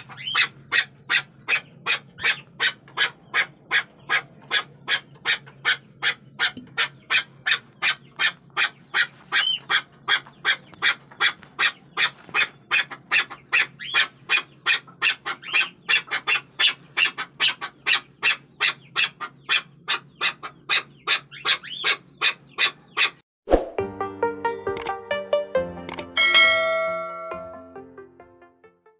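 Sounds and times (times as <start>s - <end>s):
partridge calling: 0.0s - 23.2s.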